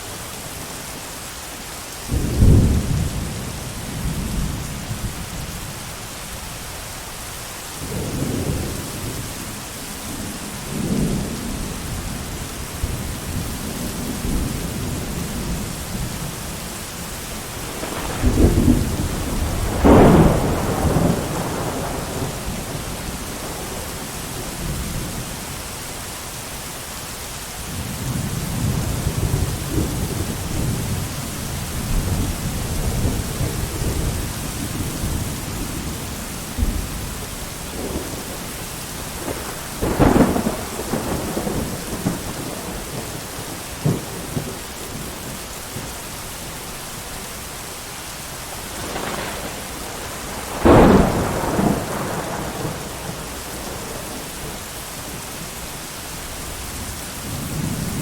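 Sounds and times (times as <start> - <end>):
heavy rain: 0.0 - 58.0
thunder rumbling: 2.1 - 5.8, 7.8 - 25.4, 27.7 - 46.5, 48.3 - 58.0.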